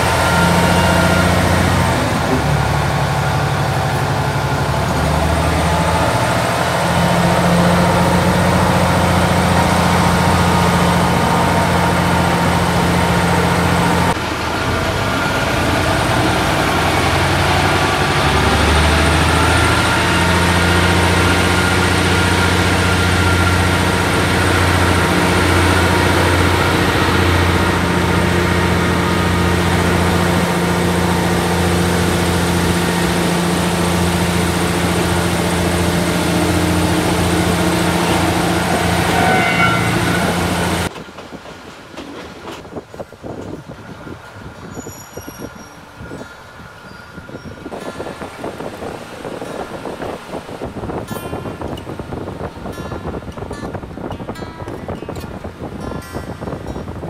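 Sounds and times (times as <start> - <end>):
diesel train engine running: 0.0 - 57.0.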